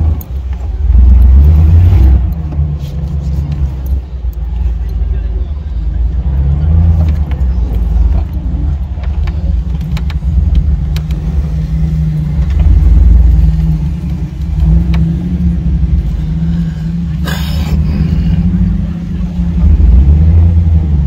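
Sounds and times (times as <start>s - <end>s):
engine low rumble: 0.0s - 21.0s.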